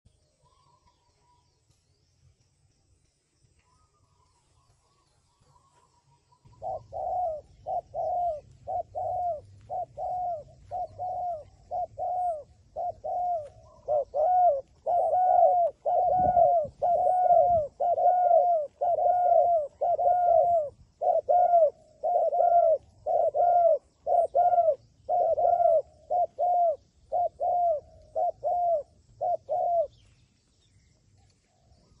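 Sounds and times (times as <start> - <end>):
dove cooing: 4.0 - 30.1.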